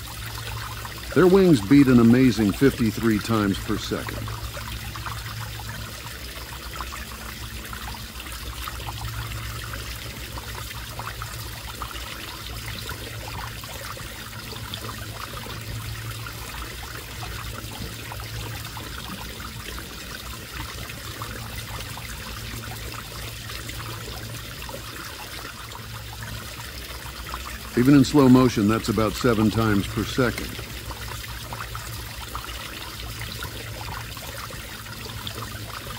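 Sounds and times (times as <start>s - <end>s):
water trickling: 0.0s - 35.9s.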